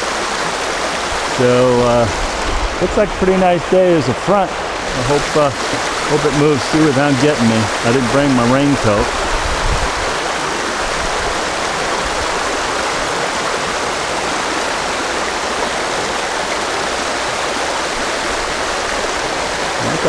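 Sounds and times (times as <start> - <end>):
river water rushing over riffle: 0.0 - 20.0.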